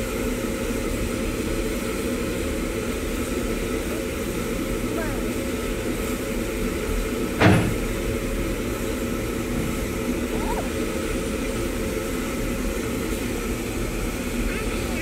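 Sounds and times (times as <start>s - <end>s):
steam locomotive venting steam: 0.0s - 15.0s.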